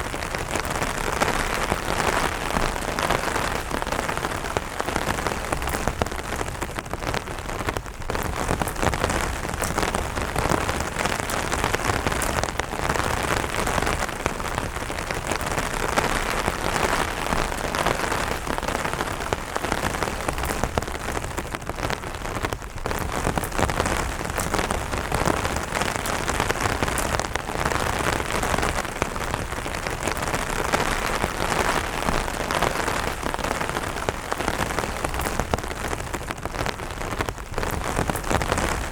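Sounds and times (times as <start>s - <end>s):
rain pattering on an umbrella: 0.0s - 38.9s.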